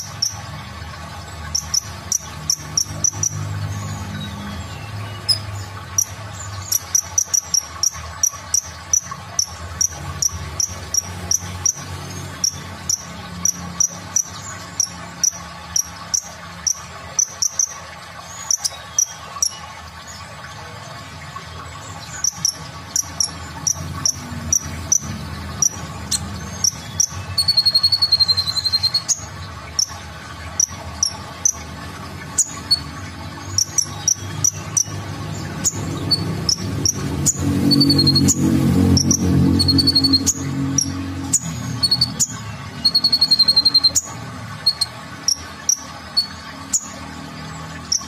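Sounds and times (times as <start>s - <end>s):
rapid buzzy bird trill: 0.0s - 20.2s, 21.1s - 48.0s.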